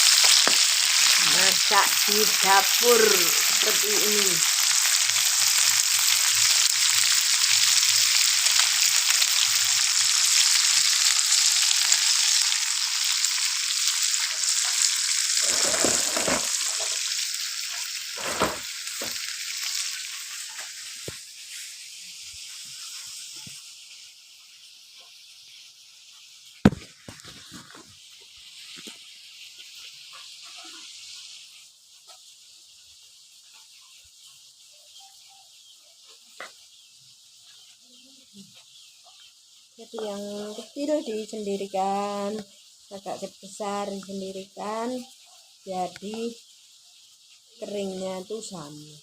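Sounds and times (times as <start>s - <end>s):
fish frying in hot oil: 0.0s - 49.0s.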